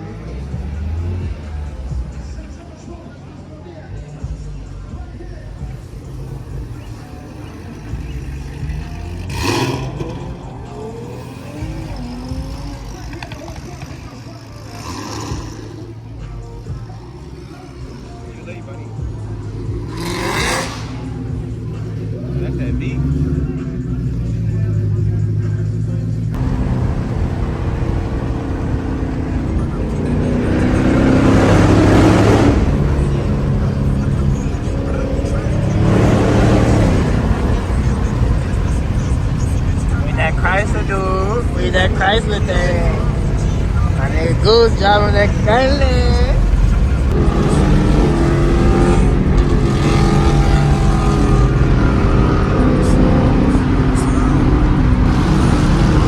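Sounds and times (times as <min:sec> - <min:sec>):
car driving past: 0:00.0 - 0:56.0
car engines rumbling: 0:00.0 - 0:56.0.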